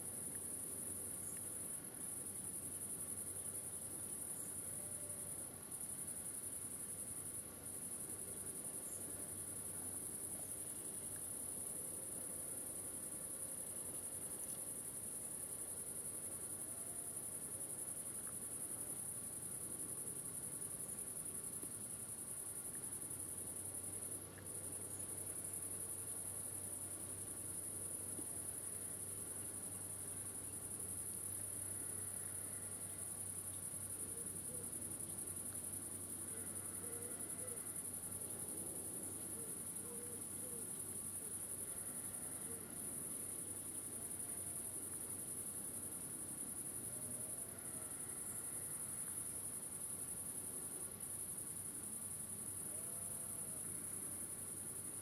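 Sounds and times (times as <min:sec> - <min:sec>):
crickets trilling: 0:00.2 - 0:55.0.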